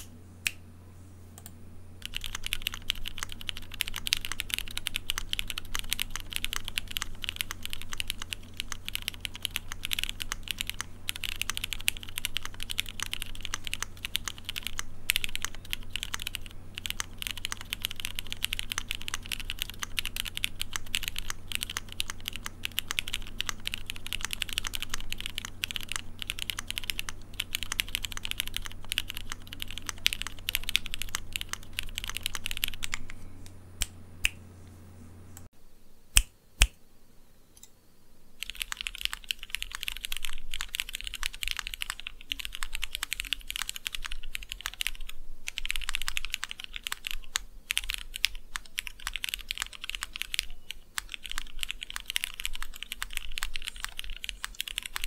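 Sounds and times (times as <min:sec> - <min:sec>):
fast typing on a mechanical keyboard: 0:02.0 - 0:33.0, 0:38.4 - 0:55.0.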